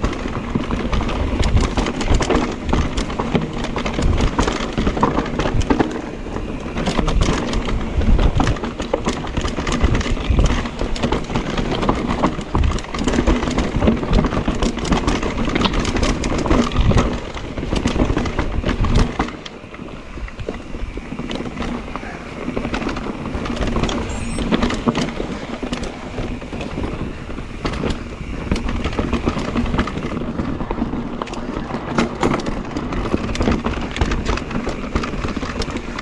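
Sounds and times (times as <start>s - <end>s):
bike frame and chain rattling: 0.0s - 36.0s.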